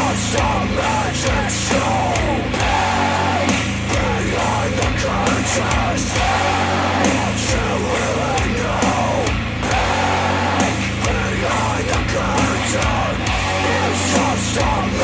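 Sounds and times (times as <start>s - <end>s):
loud music with singing: 0.0s - 15.0s
sustained bass notes: 0.0s - 15.0s.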